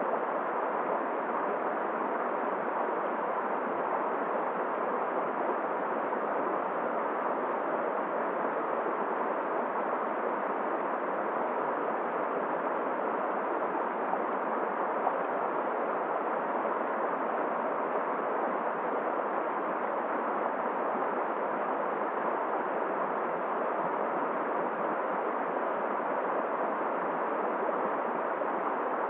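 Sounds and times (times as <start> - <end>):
blizzard wind: 0.0 - 29.0.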